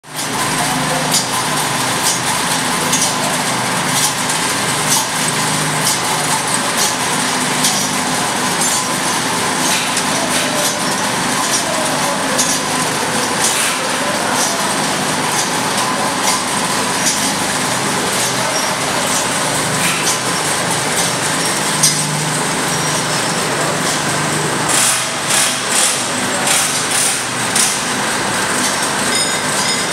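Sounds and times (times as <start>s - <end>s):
bucket elevator mechanical din: 0.1s - 29.9s
chain and buckets rattling: 2.8s - 25.8s, 26.4s - 29.9s.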